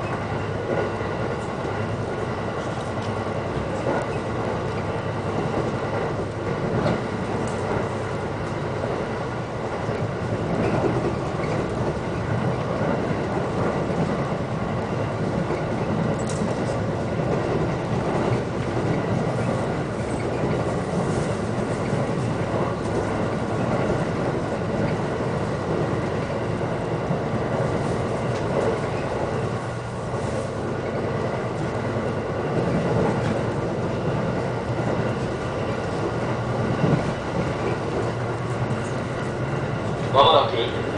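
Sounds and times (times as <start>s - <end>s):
constant train hum: 0.0s - 40.9s
rail joint clicks: 0.0s - 40.9s
train wheels rumbling on rail: 0.0s - 40.9s.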